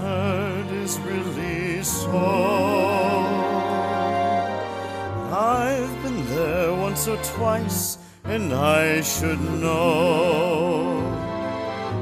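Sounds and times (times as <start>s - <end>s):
man singing with vibrato: 0.0s - 4.6s, 5.2s - 11.4s
orchestral accompaniment: 0.0s - 12.0s.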